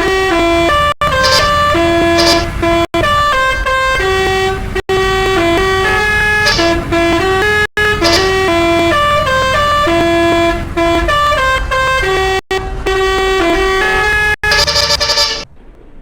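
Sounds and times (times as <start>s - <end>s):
musical bus air horn tooting: 0.0s - 15.5s
low engine rumble: 0.0s - 16.0s.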